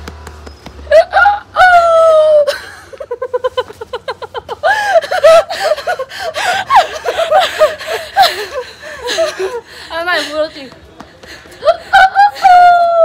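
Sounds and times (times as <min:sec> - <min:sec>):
woman laughing: 0:00.9 - 0:10.7, 0:11.6 - 0:13.0.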